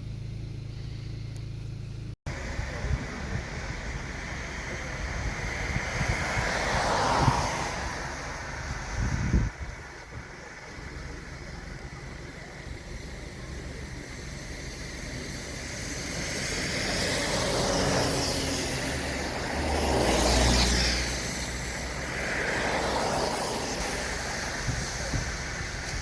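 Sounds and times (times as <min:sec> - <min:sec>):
engine and tyre hum: 0:00.0 - 0:26.0
cars passing: 0:00.6 - 0:26.0.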